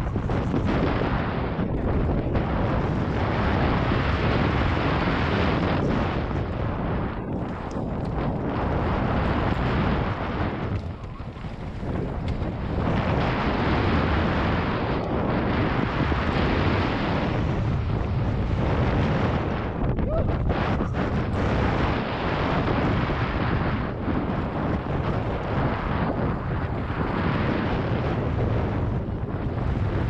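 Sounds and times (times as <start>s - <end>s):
bike tyres over stones: 0.0s - 30.0s
wind rushing over microphone: 0.0s - 30.0s.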